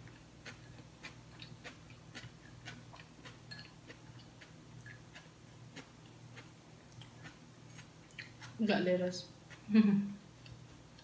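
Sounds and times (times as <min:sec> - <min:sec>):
person chewing food: 0:00.0 - 0:08.6, 0:09.4 - 0:11.0
steady low hum: 0:00.0 - 0:11.0.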